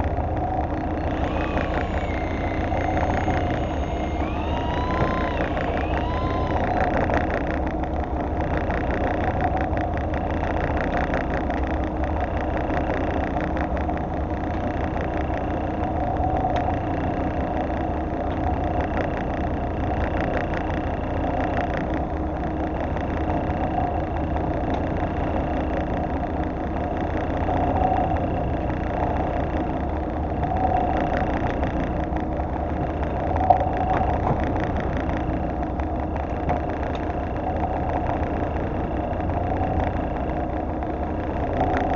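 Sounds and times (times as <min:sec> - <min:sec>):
boat engine idling hum: 0:00.0 - 0:41.9.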